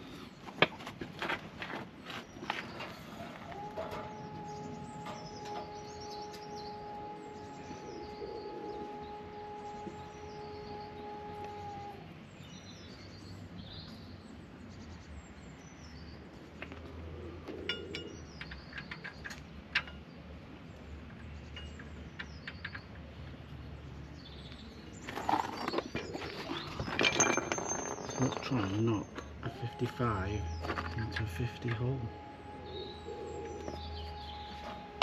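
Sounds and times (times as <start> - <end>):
steady background hum: 0.0 - 35.0
birds chirping: 1.6 - 35.0.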